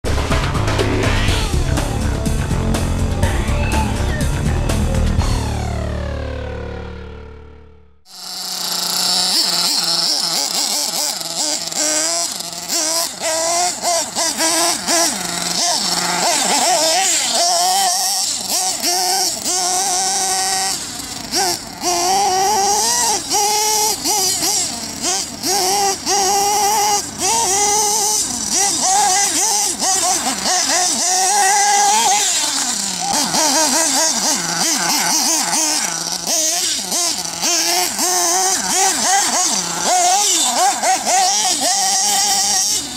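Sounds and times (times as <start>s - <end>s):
nitro engine revving: 0.0s - 42.9s.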